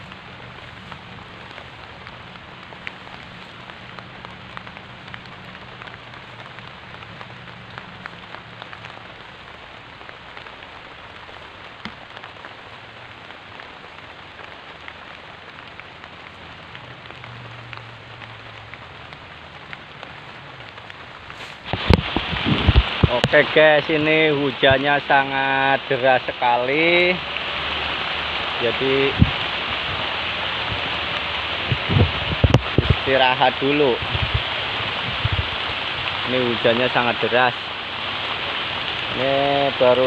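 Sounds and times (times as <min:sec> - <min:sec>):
heavy rain on leaves: 0:00.0 - 0:40.0.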